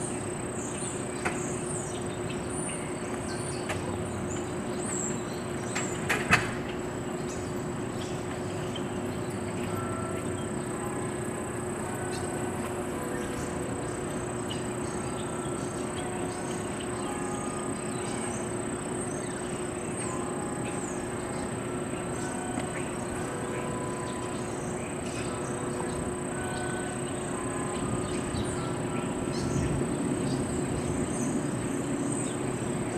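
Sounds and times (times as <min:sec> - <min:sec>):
high-pitched whine: 0:00.0 - 0:32.9.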